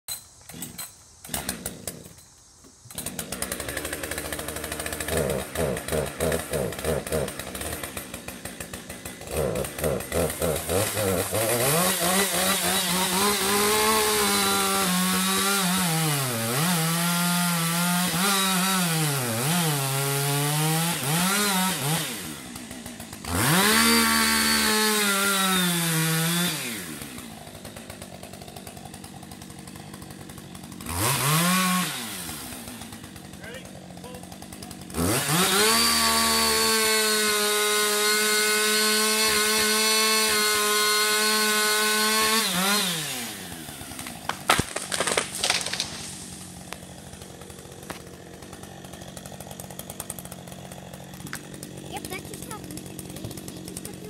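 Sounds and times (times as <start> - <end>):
chainsaw revving: 0.4 - 54.0.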